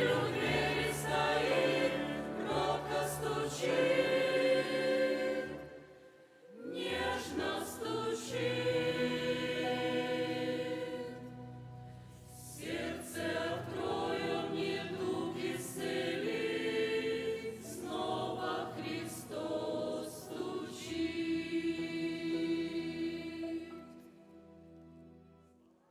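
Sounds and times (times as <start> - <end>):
church choir singing a hymn: 0.0 - 24.2.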